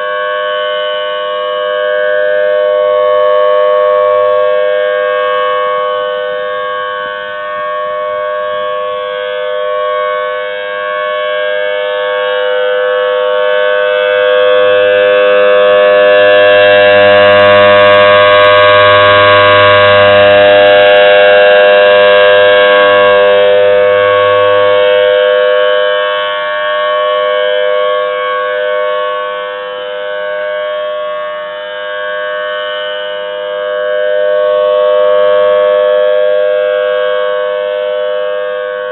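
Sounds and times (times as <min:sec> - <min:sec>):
civil defense siren steady tone: 0:00.0 - 0:38.9.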